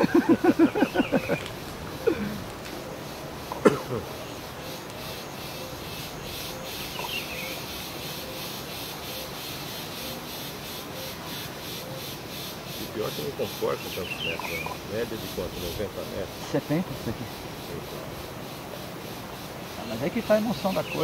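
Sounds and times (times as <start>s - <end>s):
insects trilling: 0.0s - 21.0s
rapid pulsed calls: 0.0s - 21.0s.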